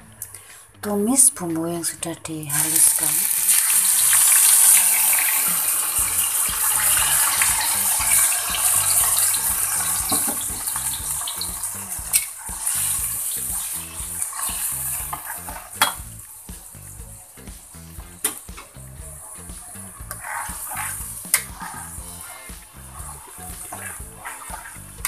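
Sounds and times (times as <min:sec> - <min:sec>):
spice paste sizzling in hot oil: 0:02.6 - 0:25.0.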